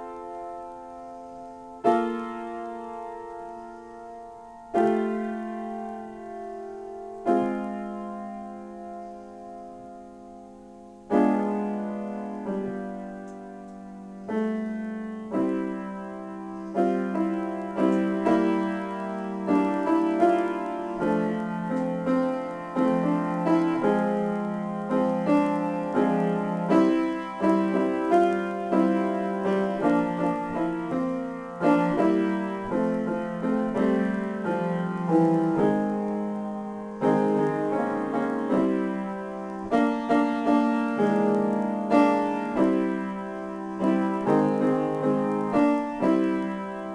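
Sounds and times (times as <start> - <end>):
grand piano playing: 0.0 - 46.9.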